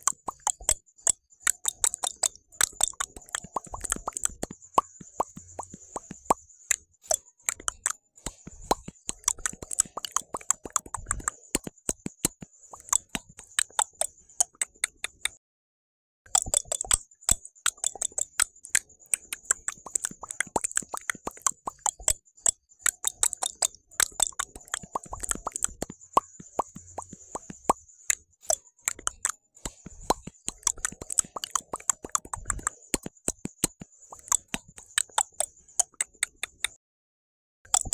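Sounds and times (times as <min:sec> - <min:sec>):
wet mouth clicks and pops: 0:00.0 - 0:15.4, 0:16.3 - 0:36.8, 0:37.7 - 0:37.9.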